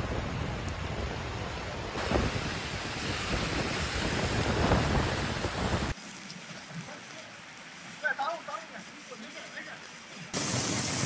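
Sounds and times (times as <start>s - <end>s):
rain: 0.0s - 11.0s
rushing floodwater: 0.0s - 11.0s
car tyres through floodwater: 0.4s - 11.0s.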